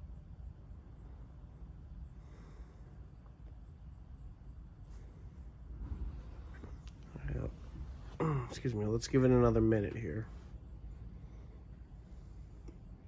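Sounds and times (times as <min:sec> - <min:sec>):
insects trilling: 0:00.0 - 0:13.0
steady low rumble: 0:00.0 - 0:13.0.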